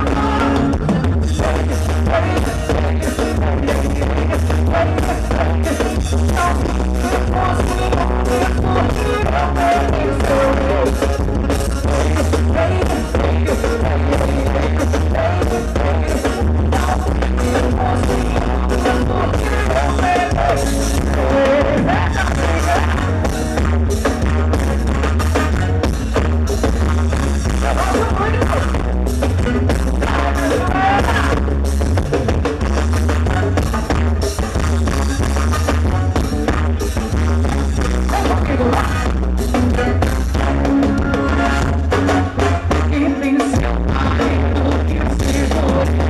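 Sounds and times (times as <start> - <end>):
band music with heavy bass: 0.0 - 46.0
driving drum beat: 0.0 - 46.0.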